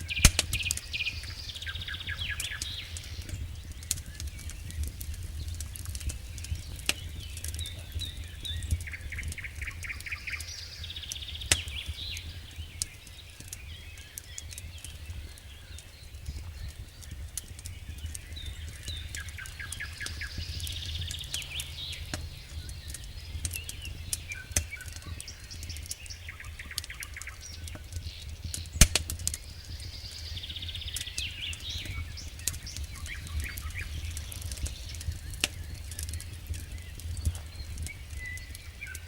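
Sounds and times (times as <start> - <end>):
logs crackling in a fireplace: 0.0 - 39.0.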